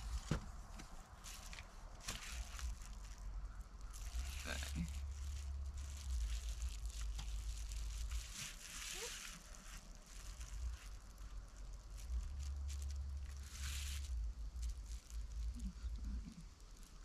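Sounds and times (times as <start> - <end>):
foil insulation crinkling: 0.0 - 17.0.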